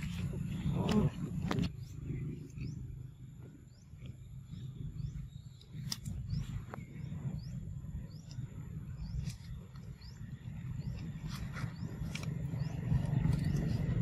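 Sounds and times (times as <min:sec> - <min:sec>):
high insect drone: 0:00.0 - 0:14.0
low rumble: 0:00.0 - 0:14.0.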